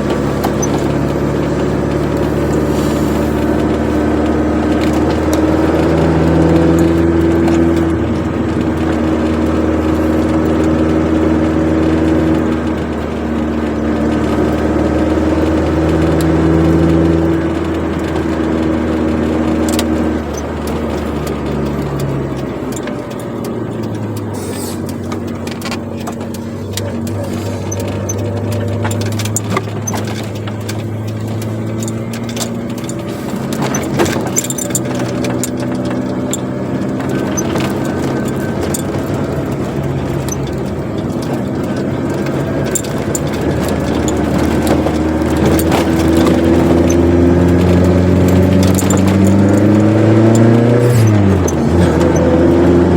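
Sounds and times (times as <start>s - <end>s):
car engine and exhaust droning: 0.0s - 52.9s.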